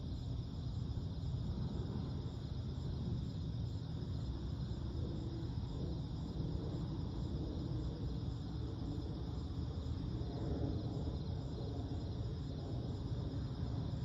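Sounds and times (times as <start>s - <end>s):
low background rumble: 0.0s - 14.0s
night insects trilling: 0.0s - 14.0s.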